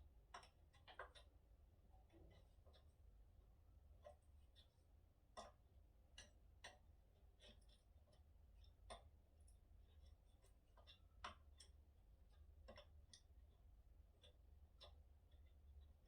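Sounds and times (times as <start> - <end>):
faint clicks and light taps: 0.1 - 16.0.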